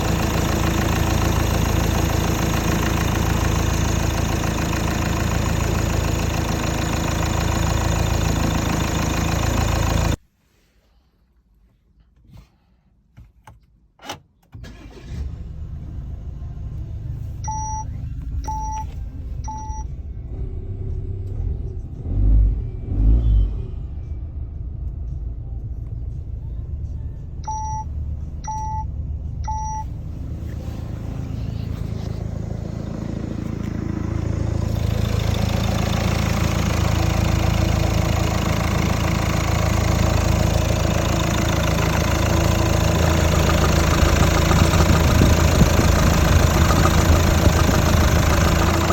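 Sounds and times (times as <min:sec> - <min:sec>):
diesel engine starting and idling: 0:00.0 - 0:10.2, 0:14.0 - 0:48.9.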